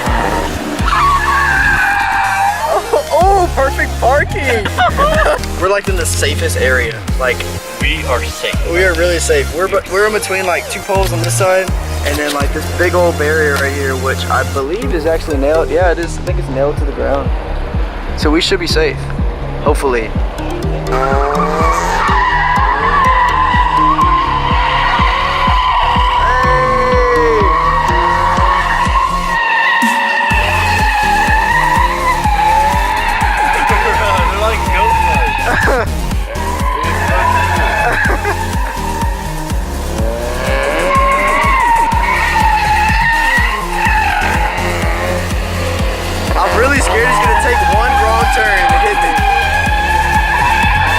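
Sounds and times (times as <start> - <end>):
bass-heavy music with thumping beat: 0.0 - 50.9
car engine revving: 0.0 - 50.9
car tyres squealing: 0.0 - 50.9.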